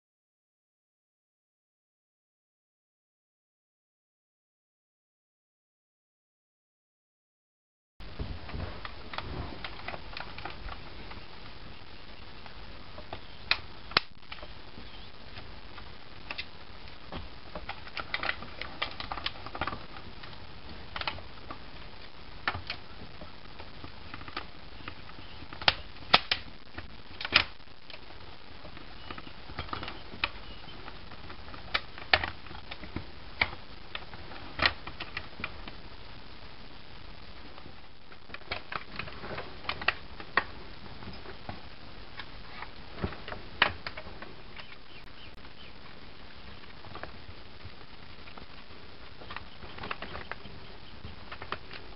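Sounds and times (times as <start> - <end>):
steady hiss: 8.0 - 51.9.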